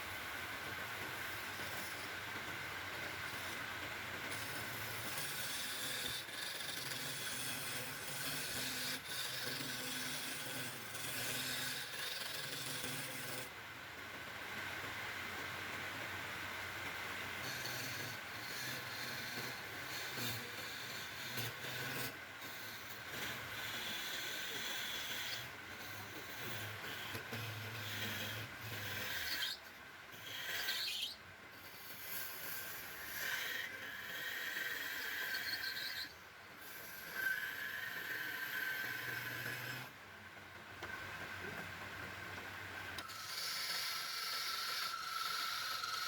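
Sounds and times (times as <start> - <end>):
lathe motor hum: 0.0 - 13.6, 16.6 - 39.9, 42.9 - 46.0
lathe tool scraping wood: 1.0 - 2.1, 3.0 - 13.5, 17.4 - 39.9, 43.0 - 46.0.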